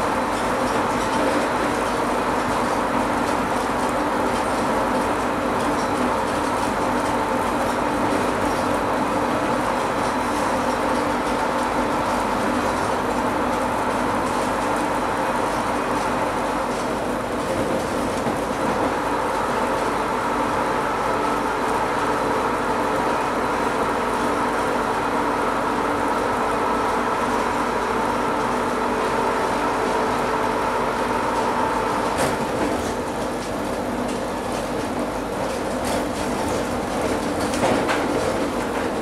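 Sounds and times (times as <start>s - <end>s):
train motor hum: 0.0s - 39.0s
train running in tunnel: 0.0s - 39.0s.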